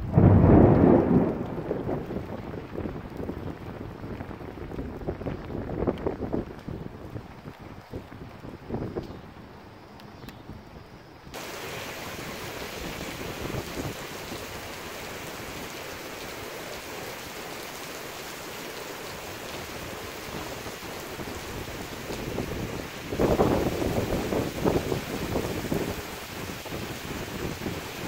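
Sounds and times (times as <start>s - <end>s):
heavy rain pouring: 0.0s - 9.6s, 11.3s - 28.0s
wind buffeting microphone: 0.0s - 9.8s, 10.4s - 17.8s, 19.1s - 28.0s.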